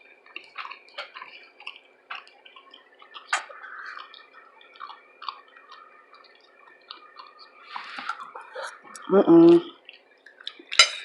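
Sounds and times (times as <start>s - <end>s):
wet mouth chewing food: 0.0s - 9.1s, 9.8s - 10.8s.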